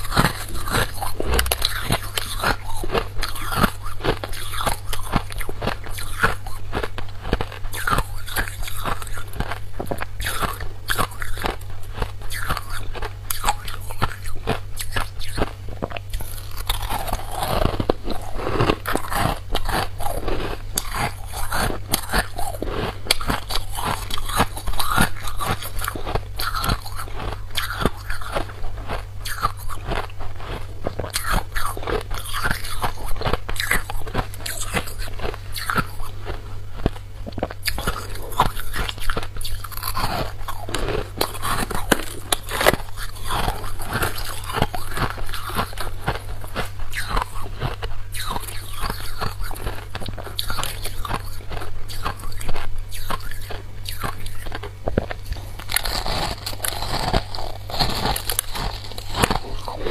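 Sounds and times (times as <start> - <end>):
frost being chewed crunching: 0.0 - 59.9.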